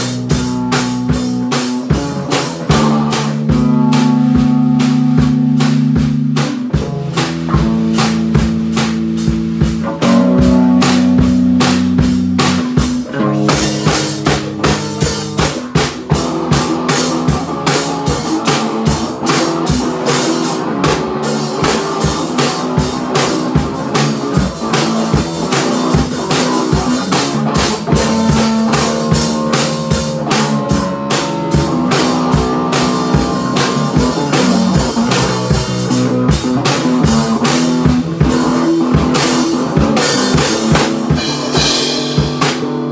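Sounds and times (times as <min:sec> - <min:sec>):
drum kit with cymbals: 0:00.0 - 0:42.9
electric bass guitar: 0:00.0 - 0:42.9
electric guitar: 0:00.0 - 0:42.9.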